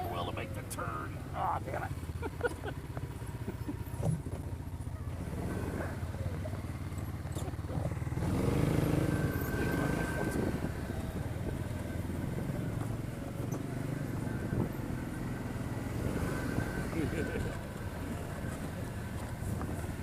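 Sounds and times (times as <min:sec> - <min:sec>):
atv engine running under load: 0:00.0 - 0:20.0.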